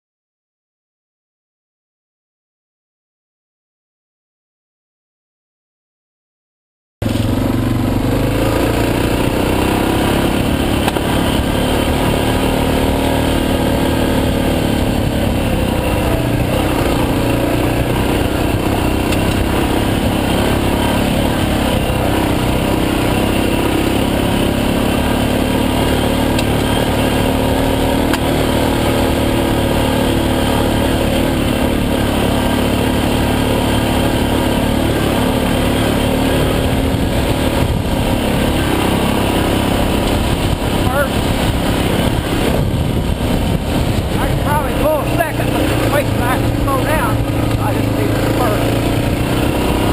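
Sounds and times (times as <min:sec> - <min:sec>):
motorcycle engine running: 0:07.0 - 0:49.9.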